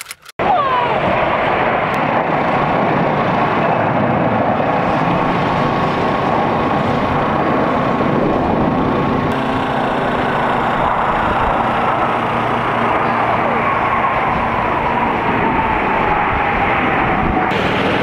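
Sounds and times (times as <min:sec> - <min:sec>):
faint high engine whine: 0:00.0 - 0:18.0
jet aircraft roaring past: 0:00.4 - 0:18.0.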